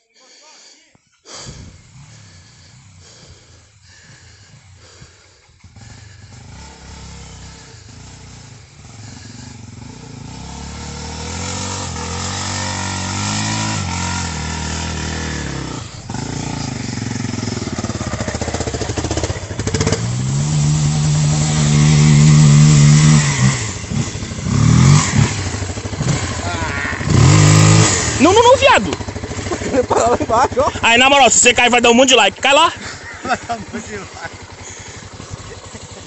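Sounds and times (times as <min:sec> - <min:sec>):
trail motorcycle engine revving: 0:01.3 - 0:36.0.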